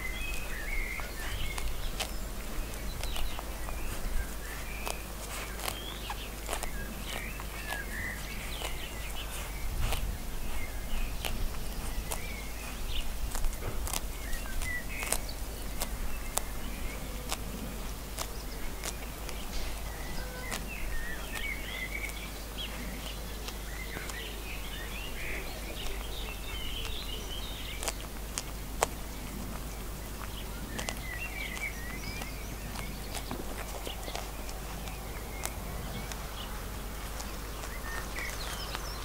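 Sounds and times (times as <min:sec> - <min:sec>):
lamb tearing and chewing grass: 0:00.0 - 0:39.0
small birds chirping: 0:00.0 - 0:39.0.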